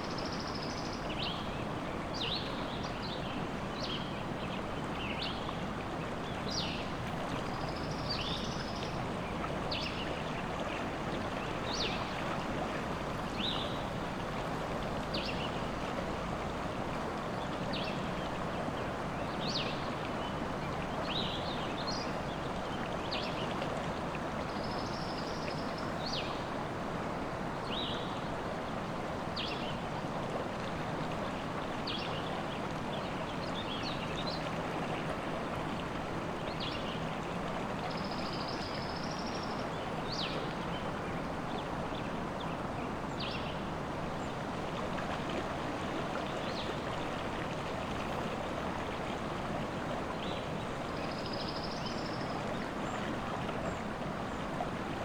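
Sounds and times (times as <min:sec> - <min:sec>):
river water running: 0:00.0 - 0:55.0.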